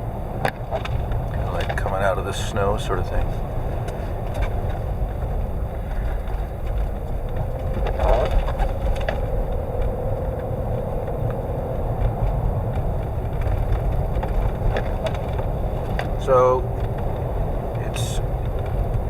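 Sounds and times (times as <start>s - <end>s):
faint steady whine: 0.0s - 19.0s
road and engine rumble: 0.0s - 19.0s
wind noise: 0.0s - 19.0s.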